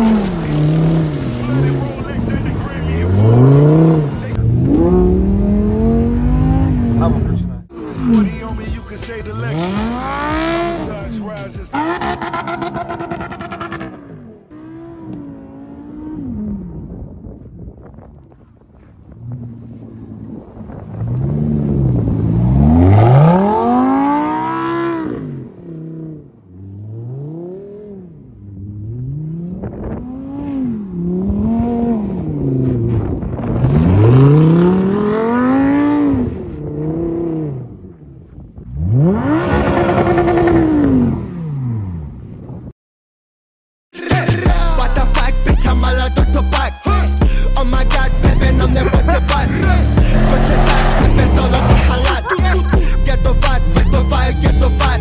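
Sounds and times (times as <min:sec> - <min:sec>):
car engine revving hard: 0:00.0 - 0:08.4, 0:09.4 - 0:11.0, 0:11.7 - 0:16.8, 0:20.9 - 0:37.8, 0:38.7 - 0:42.0, 0:45.7 - 0:55.0.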